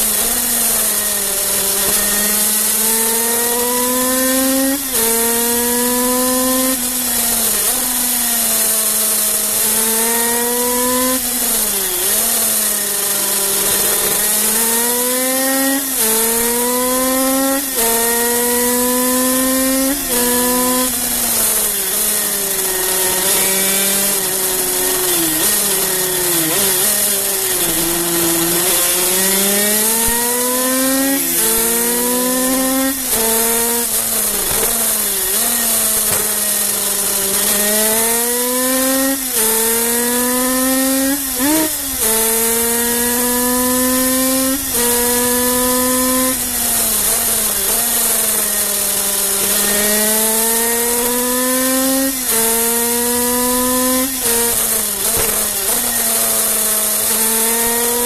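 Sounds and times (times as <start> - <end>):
racing motorbike engine whining: 0.0 - 58.0.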